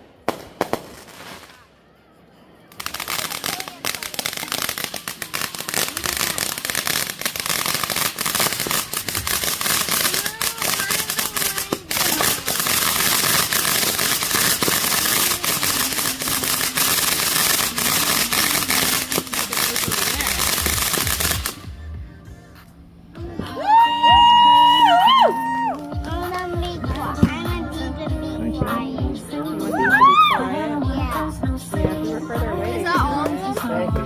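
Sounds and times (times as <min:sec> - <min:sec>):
fireworks popping and crackling: 0:00.0 - 0:01.8, 0:02.6 - 0:21.9, 0:23.3 - 0:30.2.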